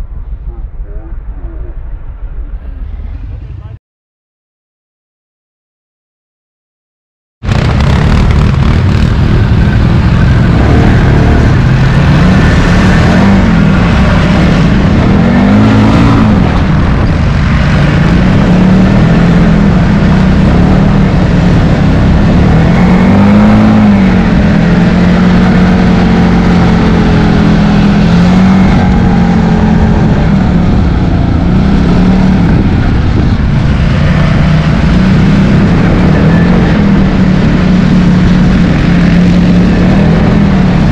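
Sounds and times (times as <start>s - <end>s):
quad bike engines revving: 7.5s - 40.9s.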